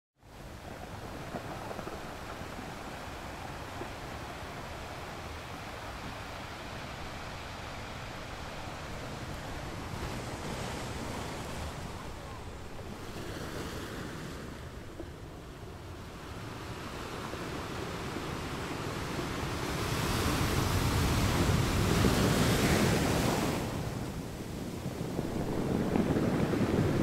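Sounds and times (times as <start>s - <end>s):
ocean waves crashing on shore: 0.3s - 27.0s.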